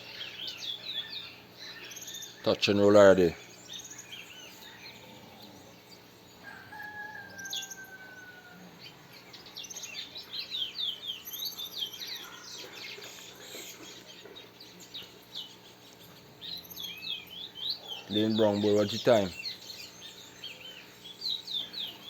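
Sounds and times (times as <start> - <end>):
high downward-sweeping bird chirps: 0.0 - 22.0.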